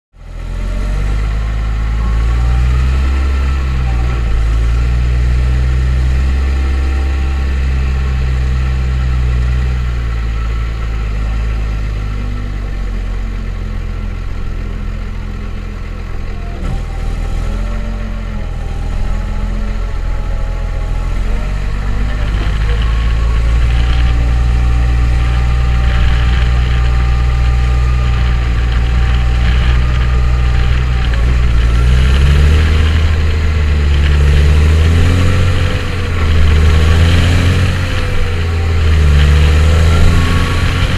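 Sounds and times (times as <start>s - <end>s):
tractor diesel engine running: 0.1s - 40.9s.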